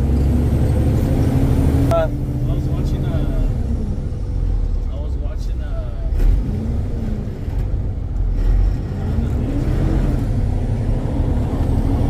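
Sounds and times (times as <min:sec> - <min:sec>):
truck engine and road noise in cab: 0:00.0 - 0:12.0.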